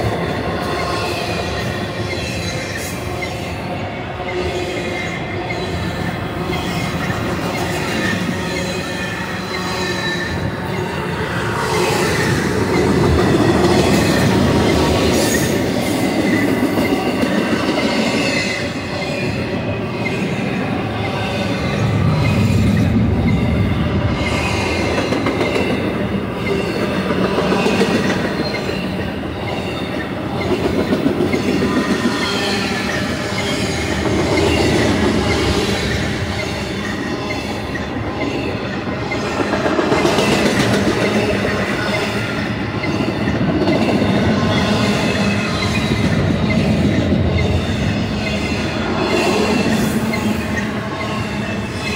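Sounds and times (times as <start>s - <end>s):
train wheels clattering on rails: 4.3s - 51.9s.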